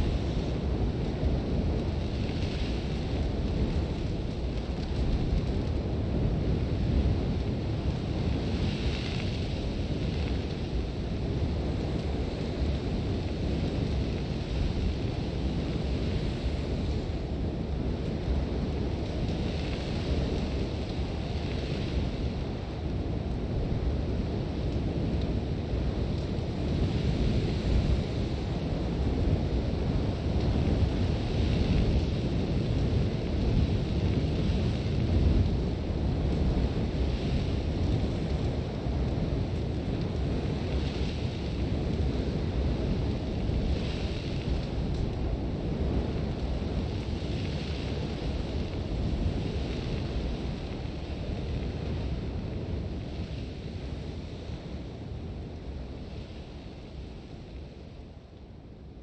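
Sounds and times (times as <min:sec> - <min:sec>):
low rumble of sandstorm wind: 0:00.0 - 0:59.0.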